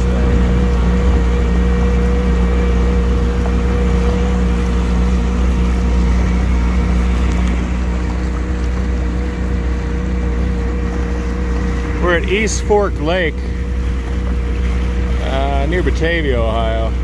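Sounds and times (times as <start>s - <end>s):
jet ski engine drone: 0.0s - 17.0s
water churning along hull: 0.0s - 17.0s.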